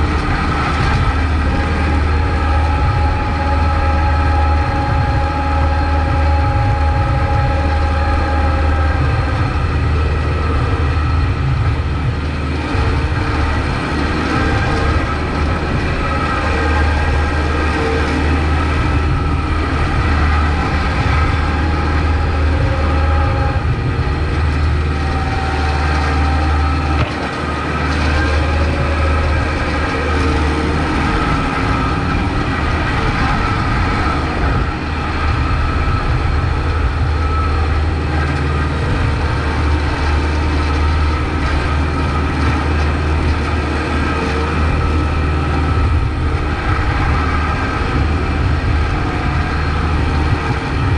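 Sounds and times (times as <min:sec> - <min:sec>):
tractor diesel engine droning: 0:00.0 - 0:50.9.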